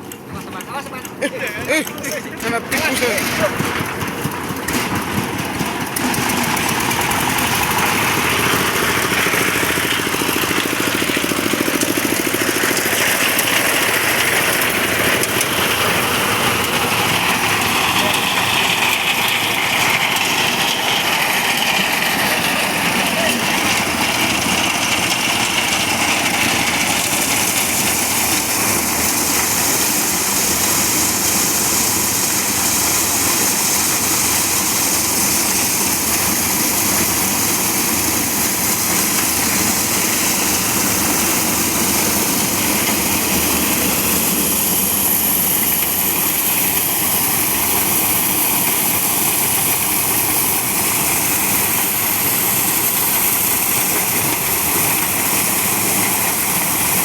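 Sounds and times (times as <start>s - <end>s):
corn thresher running: 0.0s - 57.0s.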